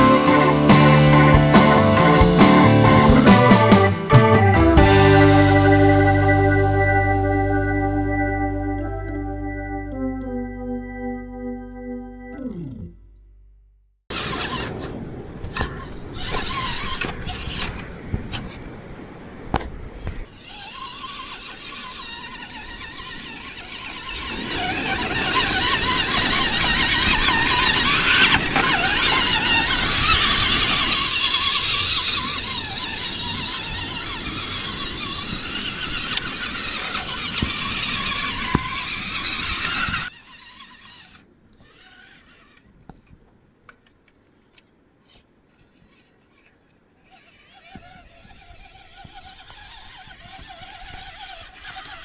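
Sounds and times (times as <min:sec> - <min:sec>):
toy truck motor whining: 0:00.0 - 0:13.3, 0:14.1 - 0:18.7, 0:20.3 - 0:43.1, 0:45.0 - 0:52.0.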